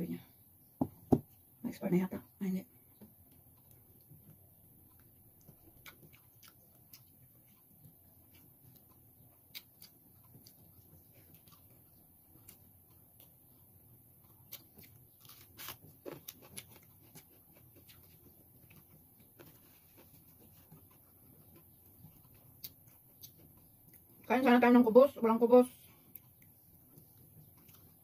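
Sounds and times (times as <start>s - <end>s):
quiet chewing: 2.7s - 24.3s, 25.8s - 28.0s.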